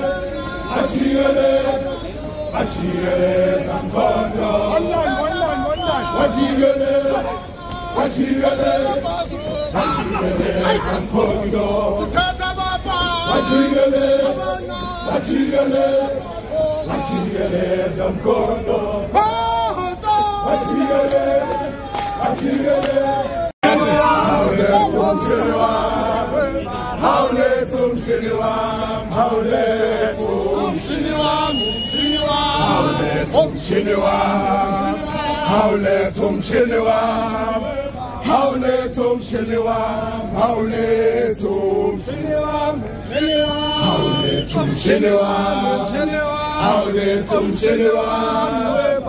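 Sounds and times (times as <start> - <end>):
men singing and chanting: 0.0 - 49.0.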